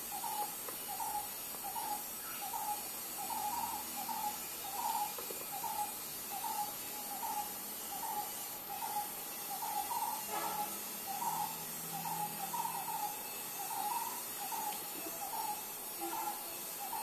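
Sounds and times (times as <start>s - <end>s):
steady background hiss: 0.0s - 17.0s
bird calling: 0.1s - 17.0s.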